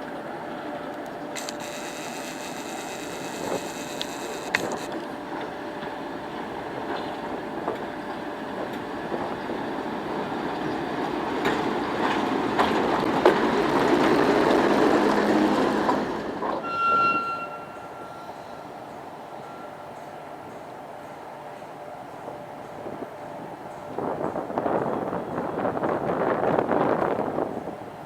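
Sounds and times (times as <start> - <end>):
diesel locomotive running: 0.0 - 28.0.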